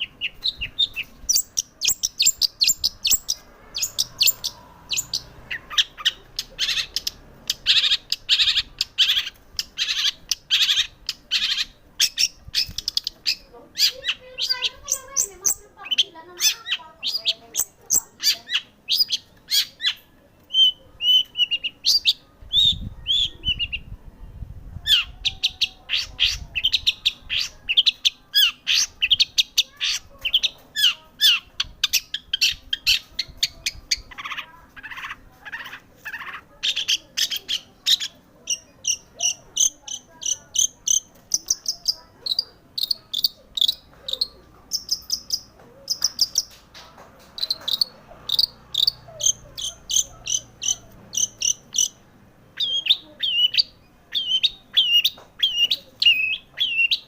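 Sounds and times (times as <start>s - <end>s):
shrike singing chirps and trills: 0.0s - 24.0s, 24.8s - 46.6s, 47.3s - 57.0s.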